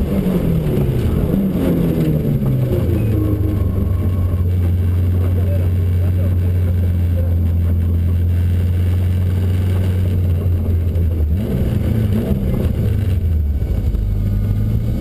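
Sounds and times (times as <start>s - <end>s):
car engine drone in cabin: 0.0s - 15.0s.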